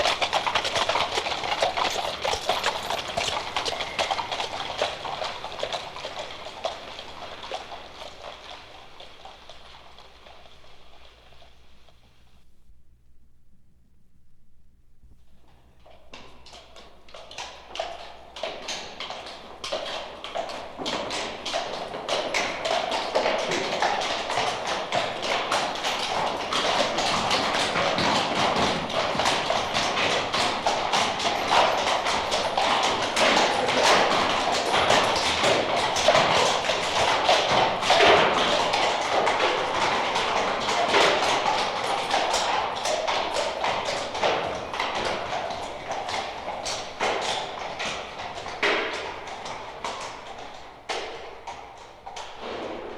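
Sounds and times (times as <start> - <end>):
horse hooves on pavement: 0.0 - 12.2, 15.8 - 52.9.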